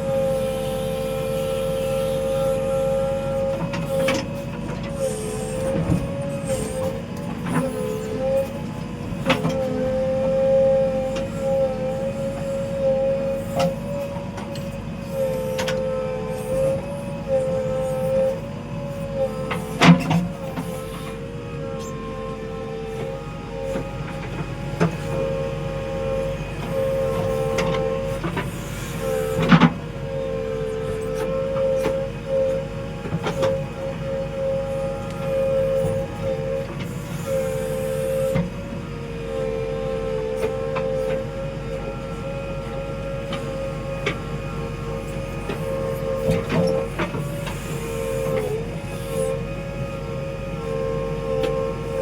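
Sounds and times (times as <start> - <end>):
backhoe diesel engine: 0.0 - 52.0
hydraulic whine: 0.0 - 52.0.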